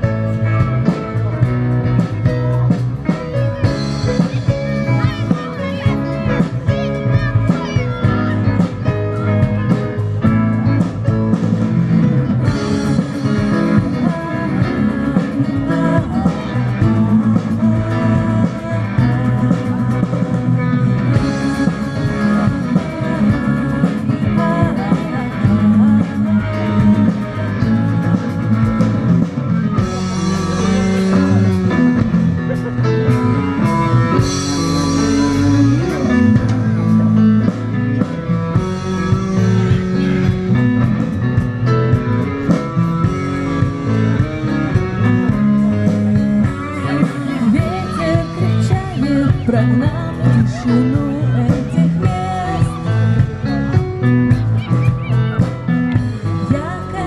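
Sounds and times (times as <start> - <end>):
lead electric guitar: 0.0 - 57.0
rock band instrumental: 0.0 - 57.0.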